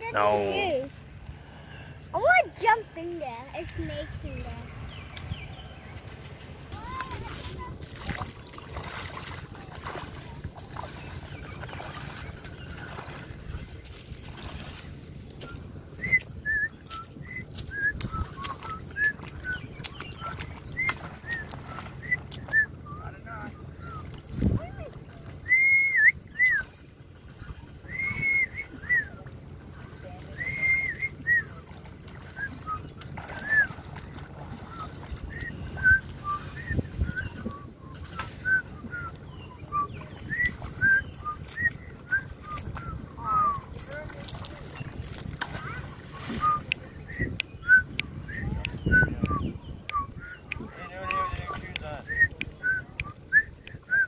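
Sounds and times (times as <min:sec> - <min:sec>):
birds chirping: 0:00.0 - 0:53.9
people wading in water: 0:00.0 - 0:54.0.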